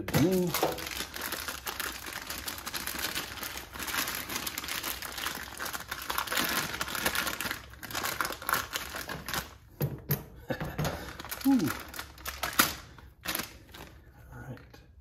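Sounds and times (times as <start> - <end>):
crinkling handling noise: 0.0 - 9.8, 10.6 - 14.1.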